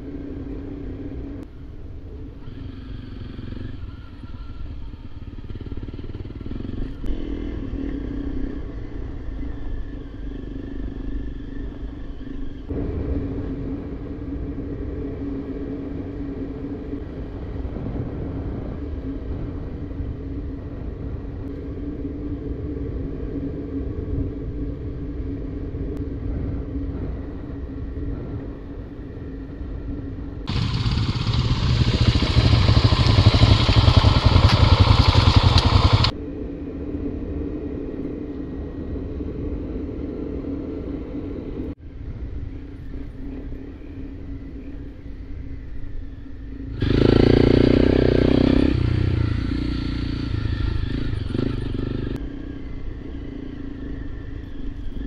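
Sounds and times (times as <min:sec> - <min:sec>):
off-road vehicle engine droning: 0:00.0 - 0:37.5, 0:42.4 - 0:55.0.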